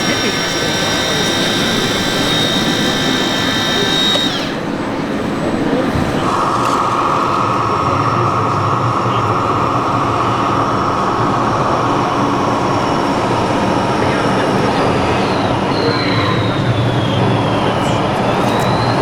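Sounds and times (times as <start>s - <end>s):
motor whining: 0.0s - 19.0s.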